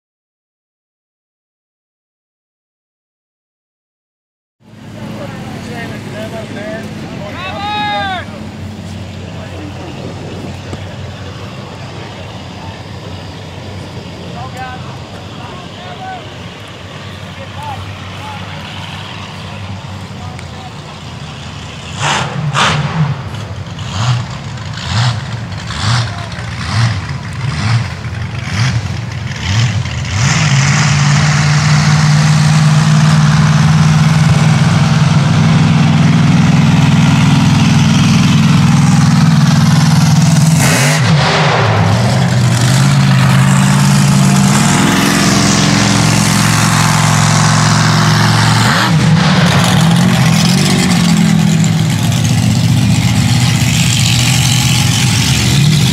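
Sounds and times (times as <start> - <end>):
truck engine pulsing and running: 4.6 - 55.9.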